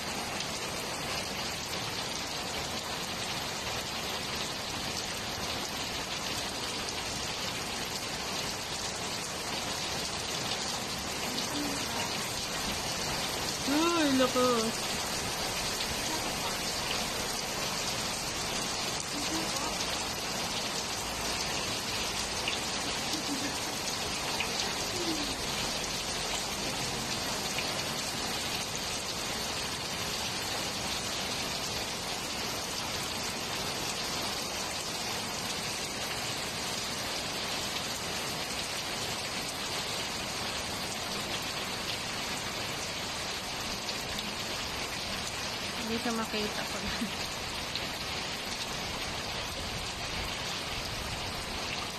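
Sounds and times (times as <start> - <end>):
rain on a flat roof: 0.0 - 51.9.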